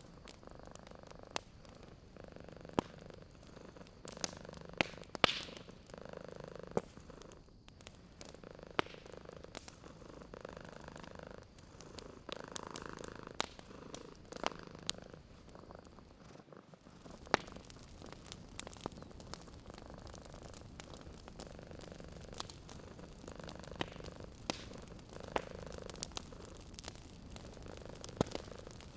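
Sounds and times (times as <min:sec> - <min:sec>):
fire popping sharply: 0:00.0 - 0:06.0, 0:06.7 - 0:28.9
wood fire crackling: 0:00.0 - 0:28.9
cat purring: 0:00.4 - 0:07.5, 0:08.2 - 0:28.8.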